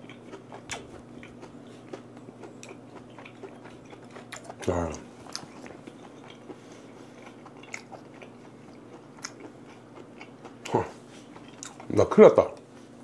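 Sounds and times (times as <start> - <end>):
close chewing: 0.0 - 12.6.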